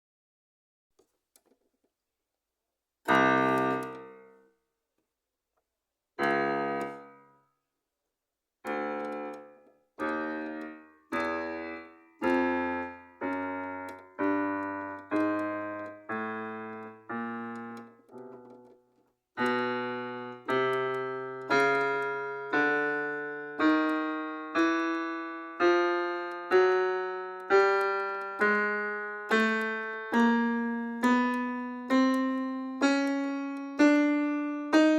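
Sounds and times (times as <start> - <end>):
piano chords: 3.1 - 4.5, 6.2 - 7.3, 8.6 - 18.8, 19.4 - 34.9.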